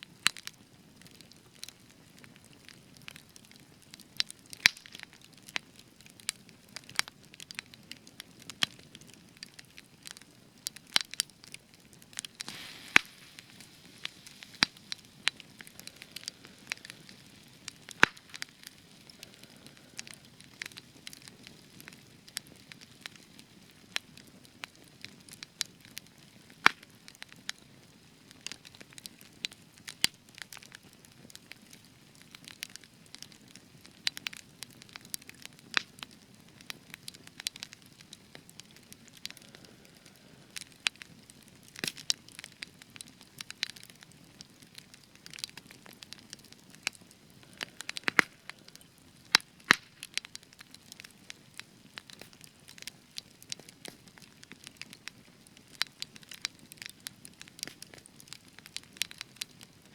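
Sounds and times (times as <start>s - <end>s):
campfire crackling and popping: 0.0s - 59.9s
fire soft hiss: 0.0s - 59.9s.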